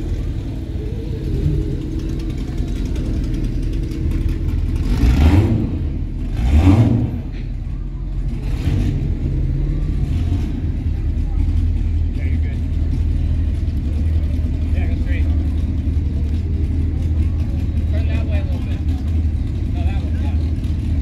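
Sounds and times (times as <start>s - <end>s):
car engines rumbling: 0.0s - 21.0s
car revving: 0.0s - 21.0s.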